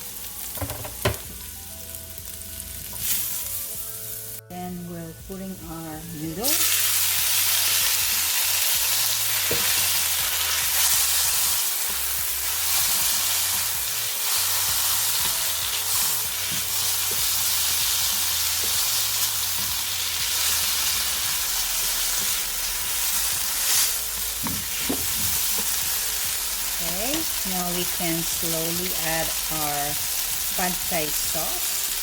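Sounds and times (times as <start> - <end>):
noodles sizzling in a wok: 0.0 - 4.4, 5.7 - 32.0.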